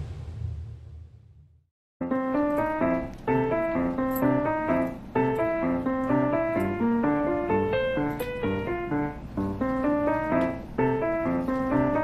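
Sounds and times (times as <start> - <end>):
keyboard tune: 2.0 - 12.0.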